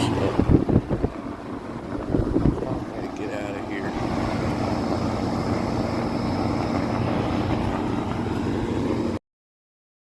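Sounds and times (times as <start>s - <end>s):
heat pump humming with fan: 0.0s - 9.2s.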